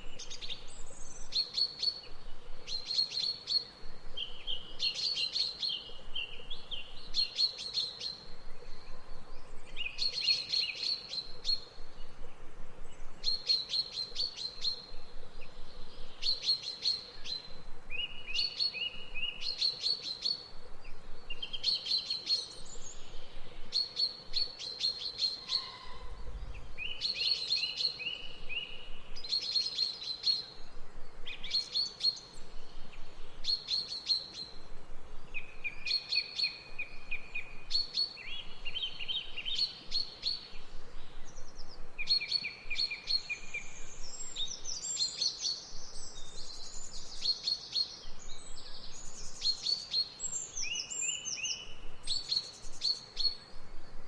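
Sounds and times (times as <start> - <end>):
soft steady hiss: 0.0 - 54.0
songbirds chirping: 0.0 - 54.0.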